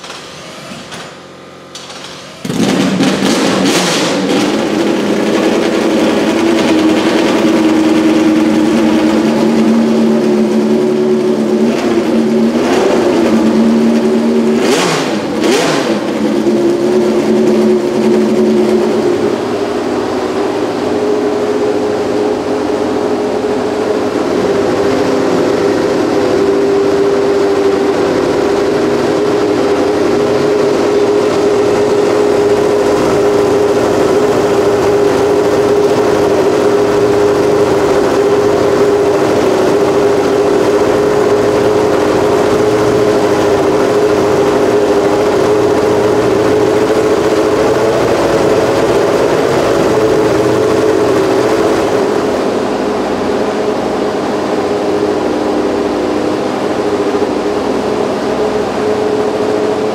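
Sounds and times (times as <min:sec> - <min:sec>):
engine throttle blips: 0:00.0 - 0:59.9
racing engine idling: 0:00.0 - 0:59.9.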